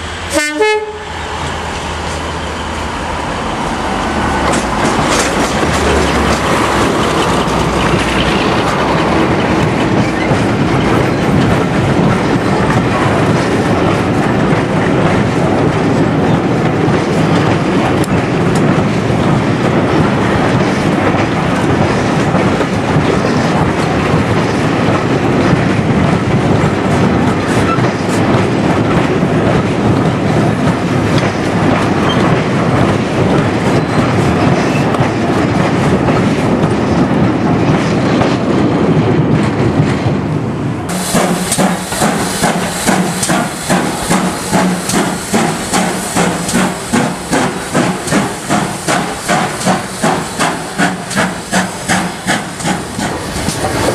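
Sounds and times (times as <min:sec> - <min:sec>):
train wheels clickety-clack: 0:03.6 - 0:53.9.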